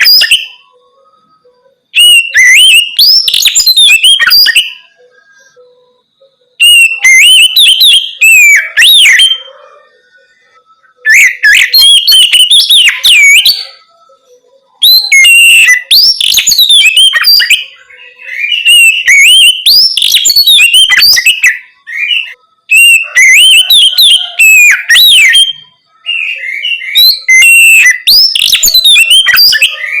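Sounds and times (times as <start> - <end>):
magpie-robin whistled song: 0.0 - 30.0.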